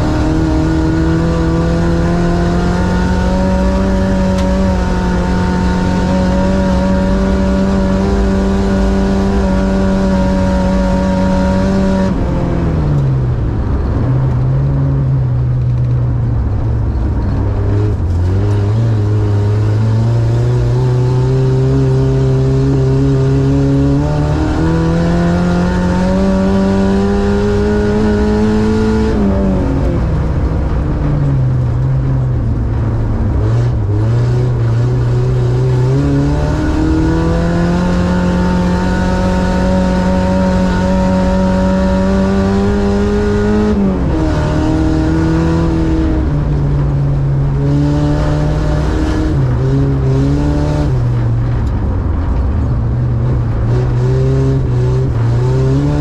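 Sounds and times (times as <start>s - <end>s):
race car engine from inside: 0.0s - 56.0s.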